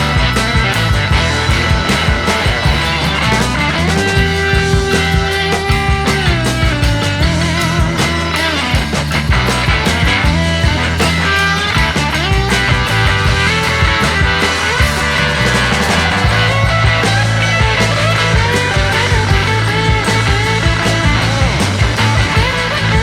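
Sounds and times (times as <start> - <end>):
loud rock music with heavy bass: 0.0 - 23.0.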